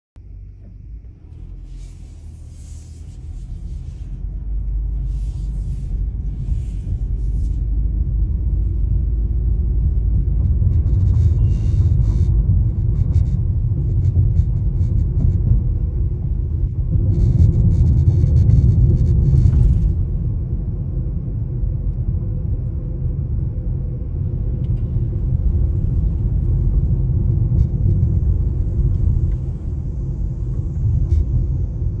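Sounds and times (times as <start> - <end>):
car road rumble: 0.2 - 32.0.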